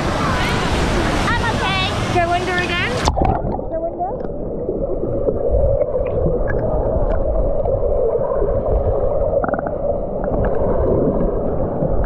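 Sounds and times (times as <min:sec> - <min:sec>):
underwater rushing water and bubbles: 0:00.0 - 0:12.0.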